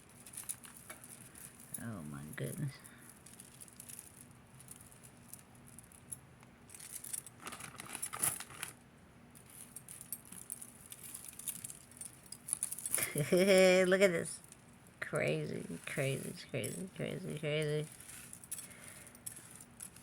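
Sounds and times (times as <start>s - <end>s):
beads clicking and rattling: 0.0s - 8.8s, 9.4s - 20.0s.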